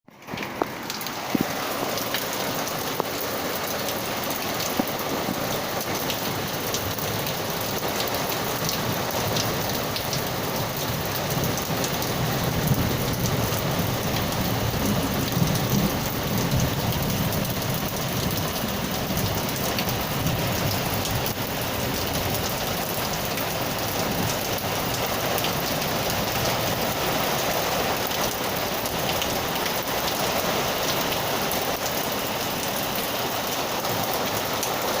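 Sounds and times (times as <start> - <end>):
sharp drips: 0.1 - 35.0
steady rain: 0.1 - 35.0.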